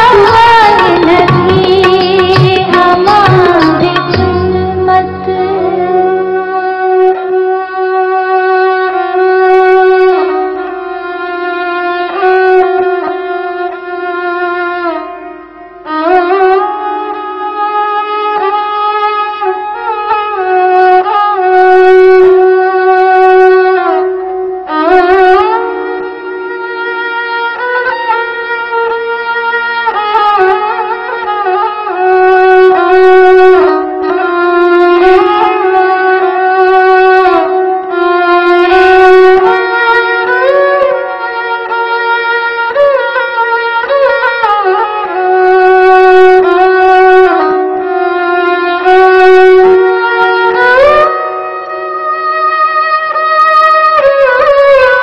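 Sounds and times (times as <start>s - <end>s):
bowed string instrument melody: 0.0s - 55.0s.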